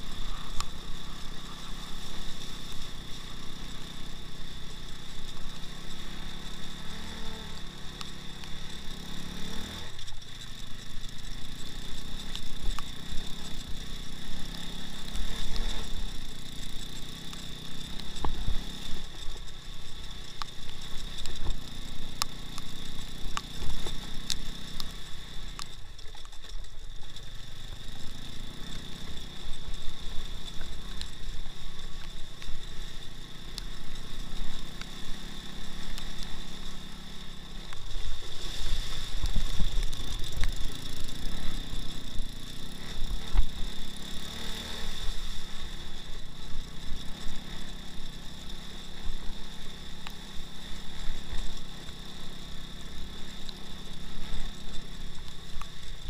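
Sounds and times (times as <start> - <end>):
off-road motorcycle engine: 0.0 - 56.0.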